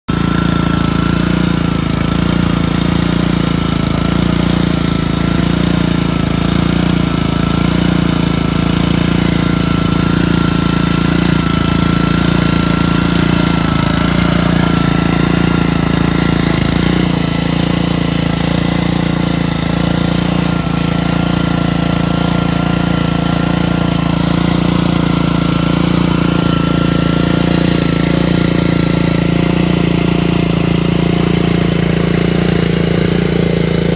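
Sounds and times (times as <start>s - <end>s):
motor running with high whine: 0.1s - 33.9s.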